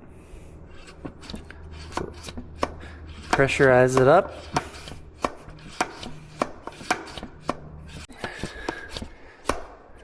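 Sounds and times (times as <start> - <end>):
hand pump clicking: 0.8 - 9.7.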